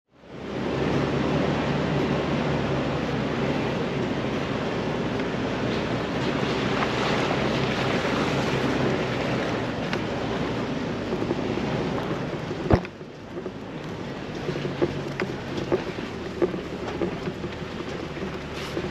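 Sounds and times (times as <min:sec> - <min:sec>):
vehicle driving rushing noise: 0:00.2 - 0:18.9.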